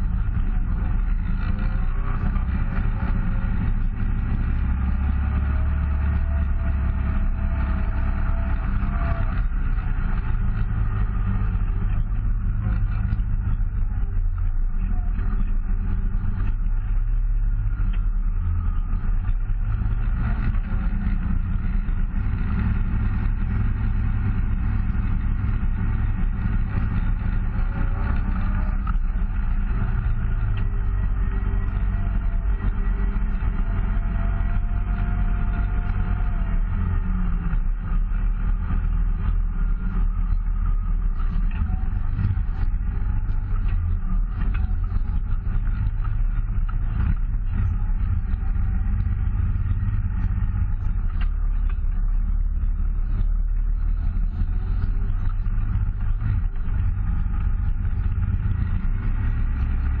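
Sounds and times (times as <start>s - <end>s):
vehicle engine droning: 0.0s - 60.0s.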